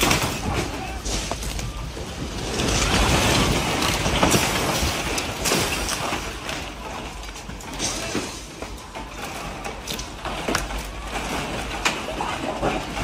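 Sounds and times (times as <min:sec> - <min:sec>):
clatters and knocks: 0:00.0 - 0:13.0
earthquake ground rumbling and rattling: 0:00.0 - 0:13.0.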